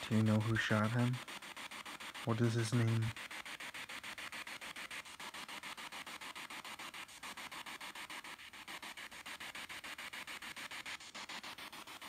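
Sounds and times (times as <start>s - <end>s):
chopped radio static hiss: 0.0s - 12.0s.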